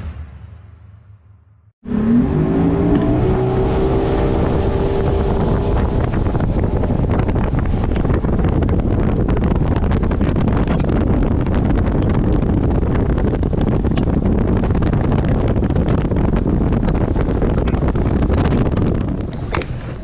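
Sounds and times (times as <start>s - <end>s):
outboard motor speeding up: 1.8s - 20.0s
wind buffeting microphone: 1.9s - 20.0s.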